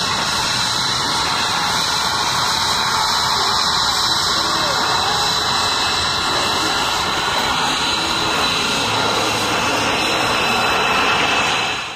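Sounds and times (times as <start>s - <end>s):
jet engines roaring past: 0.0s - 11.9s.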